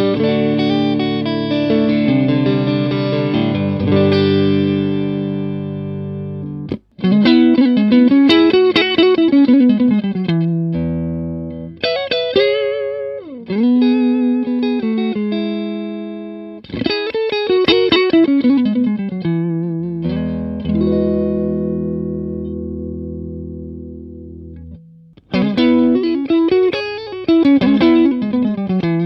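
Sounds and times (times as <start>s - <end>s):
clean electric guitar chords: 0.0s - 29.0s.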